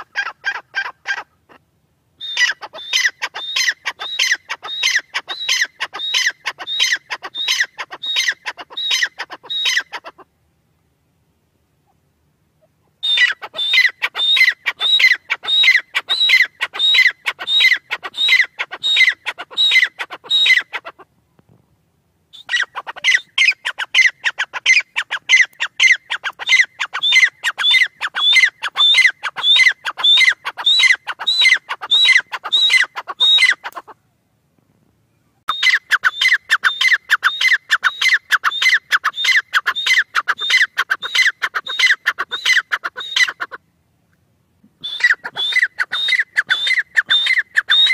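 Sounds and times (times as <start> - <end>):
bird calling shrill notes: 2.2 - 10.1, 13.0 - 20.9, 22.3 - 33.8, 35.5 - 43.6, 44.8 - 47.9.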